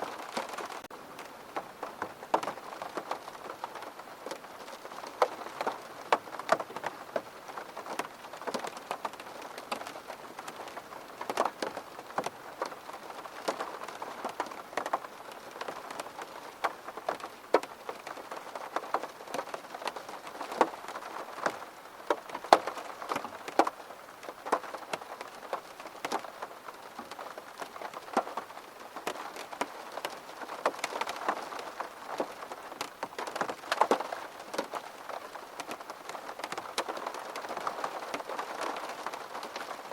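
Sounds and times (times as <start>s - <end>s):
rain drops tapping hard surface: 0.0s - 39.9s
rain hiss: 0.0s - 39.9s.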